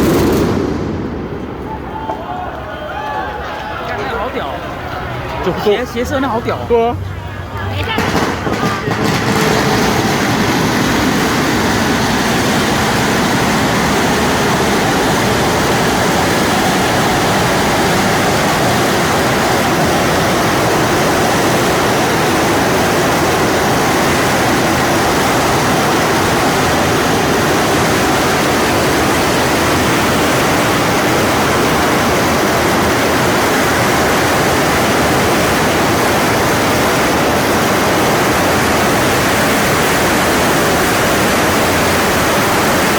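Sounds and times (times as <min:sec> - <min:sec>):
firework fountain hissing: 0:00.0 - 0:01.9, 0:07.8 - 0:42.9.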